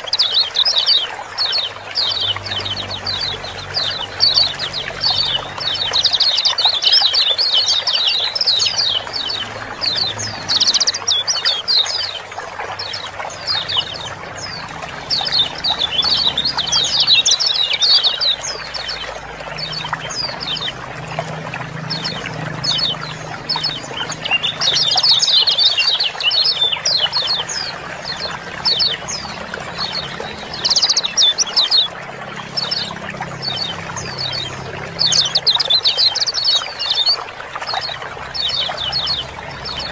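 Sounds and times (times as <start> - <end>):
birds chirping rapidly: 0.0 - 39.9
running water: 0.0 - 39.9.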